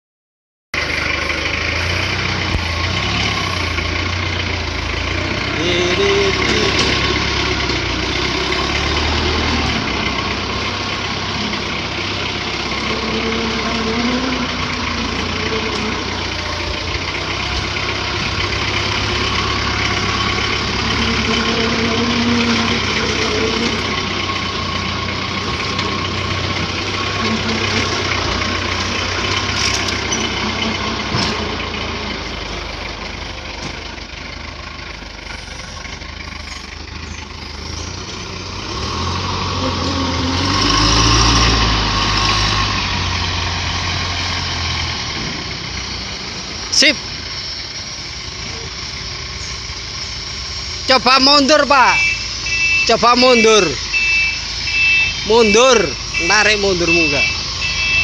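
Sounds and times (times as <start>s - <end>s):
forklift engine humming: 0.7s - 58.0s.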